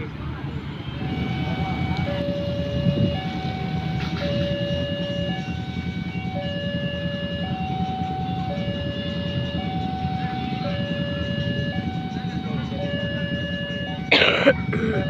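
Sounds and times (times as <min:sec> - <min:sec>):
level crossing two-tone alarm: 0:00.8 - 0:15.0.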